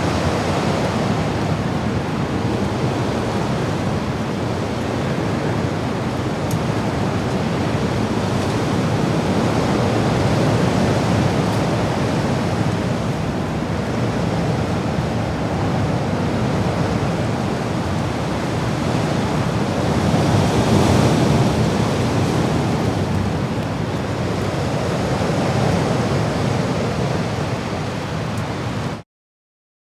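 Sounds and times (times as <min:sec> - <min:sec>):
wind rush: 0:00.0 - 0:29.0.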